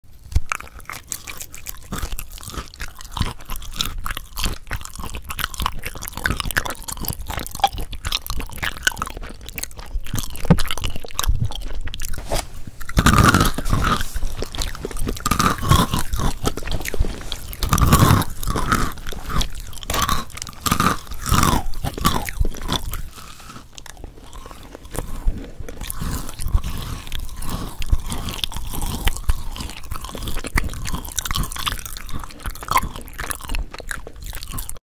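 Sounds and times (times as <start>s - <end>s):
crunching bites and chewing: 0.1s - 34.8s.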